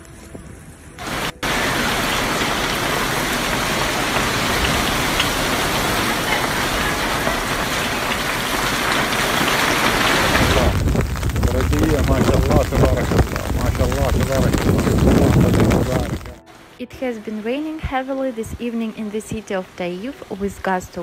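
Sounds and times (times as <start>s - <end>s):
heavy rain pouring: 1.0s - 21.0s
low rush of floodwater: 1.0s - 21.0s.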